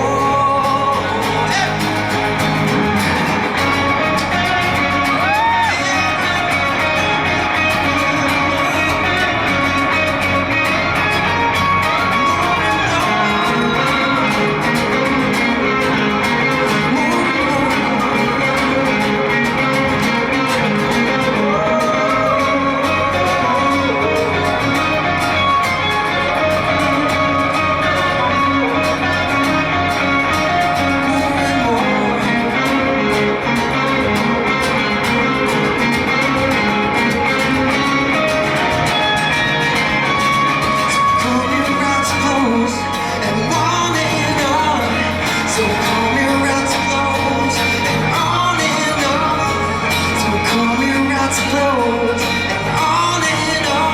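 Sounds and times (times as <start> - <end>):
live band with guitar: 0.0 - 53.9
person singing: 0.0 - 53.9.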